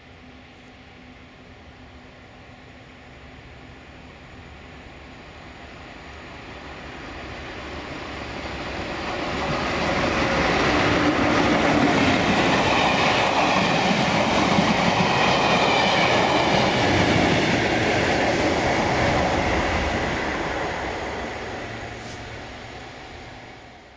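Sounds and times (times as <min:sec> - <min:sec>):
diesel train passing at speed: 0:00.0 - 0:23.9.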